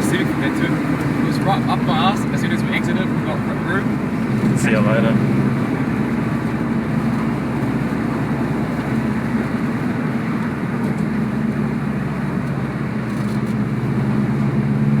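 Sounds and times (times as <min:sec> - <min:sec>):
car engine cruising: 0:00.0 - 0:15.0
road noise inside car: 0:00.0 - 0:15.0.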